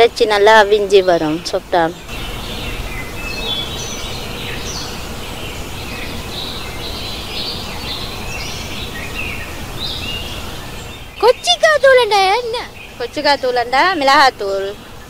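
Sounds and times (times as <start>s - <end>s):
low outdoor rumble: 0.0s - 14.9s
birds chirping: 0.0s - 15.0s.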